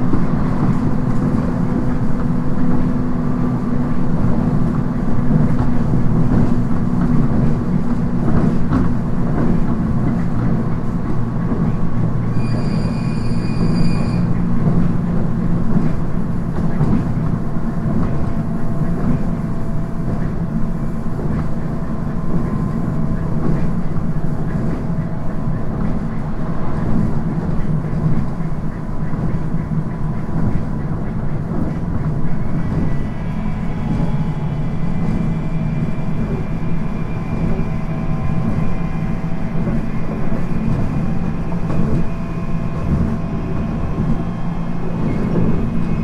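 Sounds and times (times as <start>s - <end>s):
train wheels and motors rumbling: 0.0s - 46.0s.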